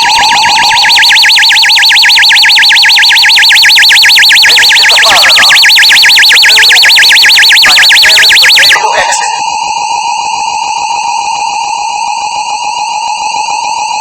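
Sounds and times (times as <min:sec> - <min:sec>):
fire alarm siren sweeping: 0:00.0 - 0:14.0.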